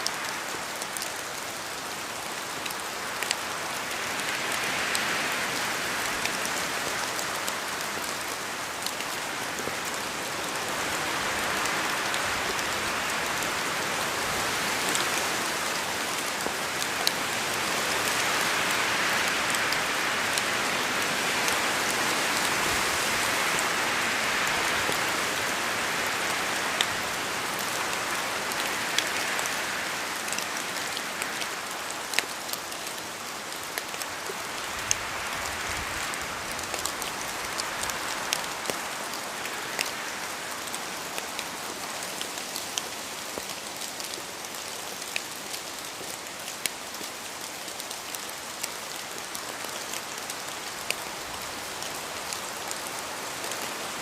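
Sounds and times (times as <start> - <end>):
rain falling in forest: 0.0 - 54.0.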